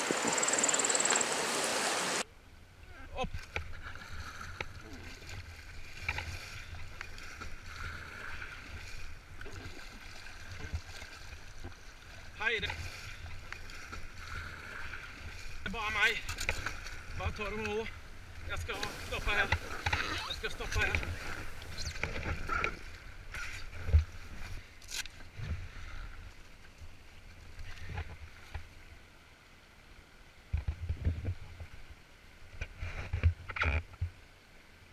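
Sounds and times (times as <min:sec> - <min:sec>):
river water noise: 0:00.0 - 0:34.9.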